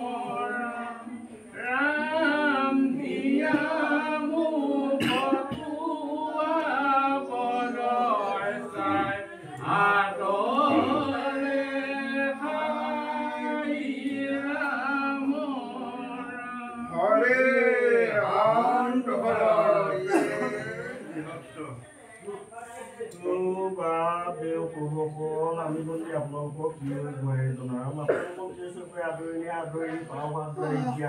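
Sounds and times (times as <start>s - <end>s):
voices singing a chant: 0.0s - 21.9s, 23.0s - 31.0s.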